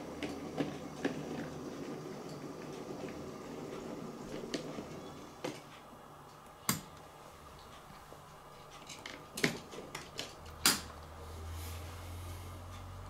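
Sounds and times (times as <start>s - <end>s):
faint room noise: 0.0s - 13.0s.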